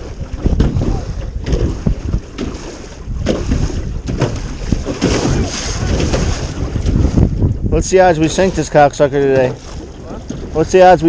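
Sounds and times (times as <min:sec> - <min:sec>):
knocks on boat: 0:00.0 - 0:07.6, 0:09.3 - 0:10.6
water splashes: 0:00.0 - 0:11.0
wind buffeting microphone: 0:00.0 - 0:11.0.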